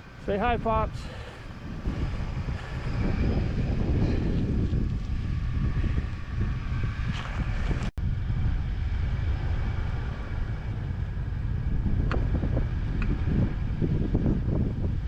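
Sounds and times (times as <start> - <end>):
engine and tyres rumbling: 0.0 - 15.0
wind buffeting microphone: 0.0 - 15.0.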